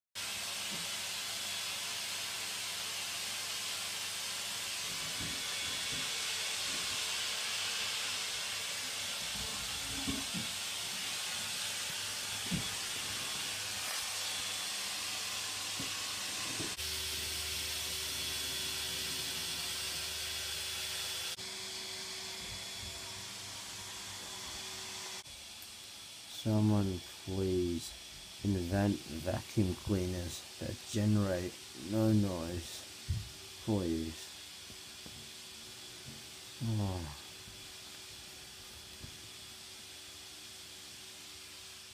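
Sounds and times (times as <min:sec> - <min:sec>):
vacuum cleaner running: 0:00.2 - 0:41.9.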